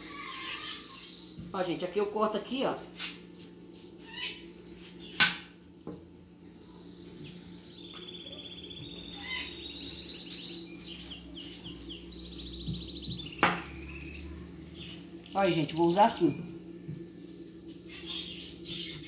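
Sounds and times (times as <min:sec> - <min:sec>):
bird chirping and trilling: 0:00.0 - 0:19.0.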